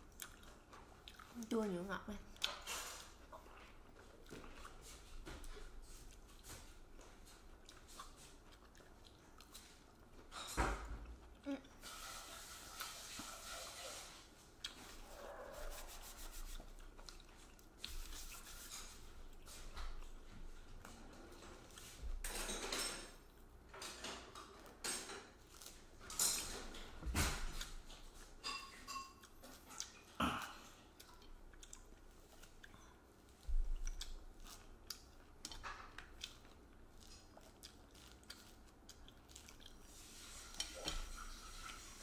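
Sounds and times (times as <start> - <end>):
people chewing: 0.0 - 11.8, 14.4 - 22.0, 23.1 - 42.0.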